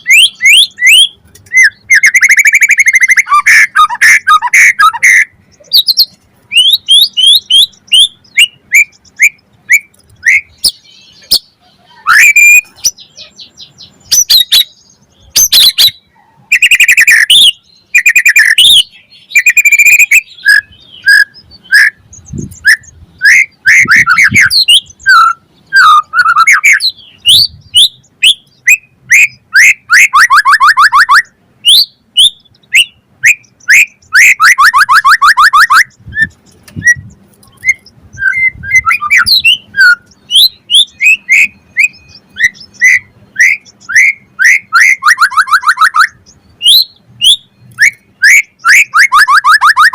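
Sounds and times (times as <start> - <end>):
bird singing loudly: 0.0 - 49.9.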